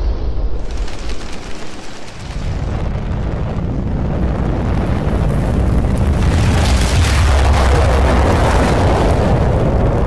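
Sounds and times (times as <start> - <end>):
deep continuous rumble: 0.0 - 10.0.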